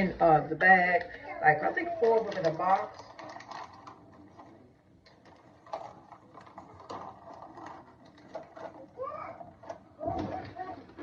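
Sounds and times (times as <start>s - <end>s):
plastic packets crinkling: 1.7s - 11.0s.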